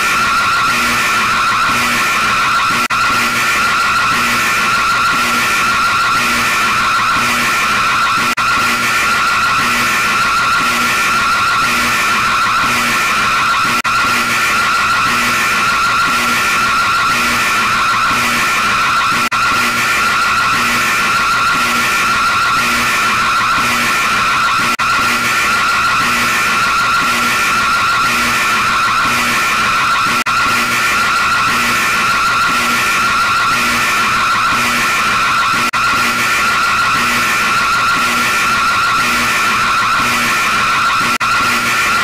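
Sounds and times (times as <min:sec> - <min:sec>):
harsh throbbing alarm tone: 0:00.0 - 0:42.0.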